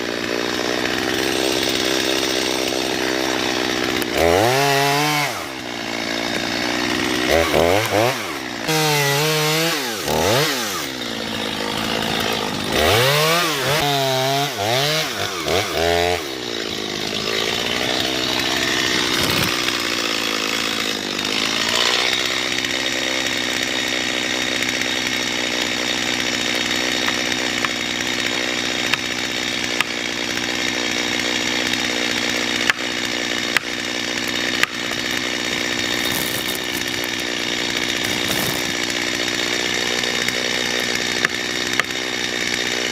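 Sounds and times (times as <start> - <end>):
chainsaw revving: 0.0 - 42.9.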